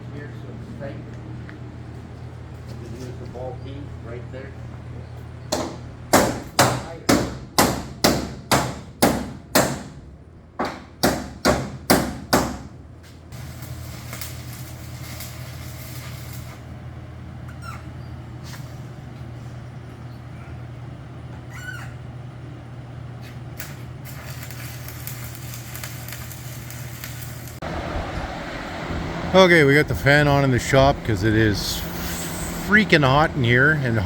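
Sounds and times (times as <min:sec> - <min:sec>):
fan humming: 0:00.0 - 0:34.0.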